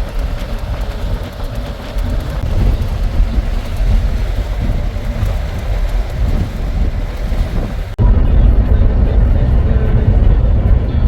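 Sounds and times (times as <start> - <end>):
minibus road rumble: 0.0 - 11.0
wind buffeting microphone: 0.0 - 11.0.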